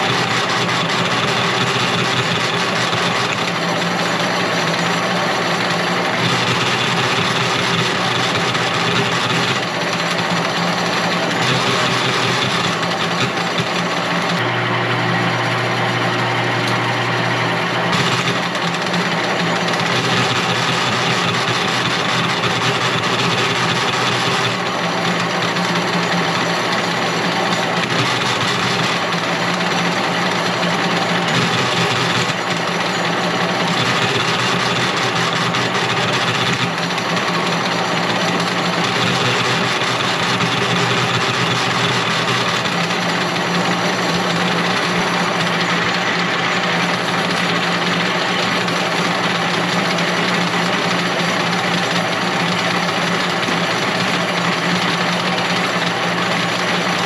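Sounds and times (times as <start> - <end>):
machine running with low hum: 0.0 - 57.0.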